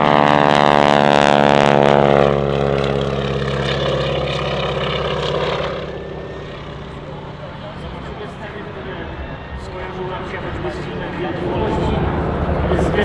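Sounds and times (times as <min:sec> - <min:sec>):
propeller plane droning: 0:00.0 - 0:13.0.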